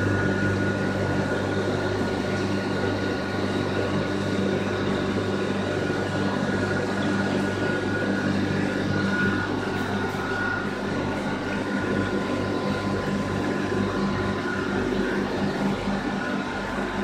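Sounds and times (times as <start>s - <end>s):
electrical hum of pumps: 0.0s - 17.0s
water and air noise: 0.0s - 17.0s.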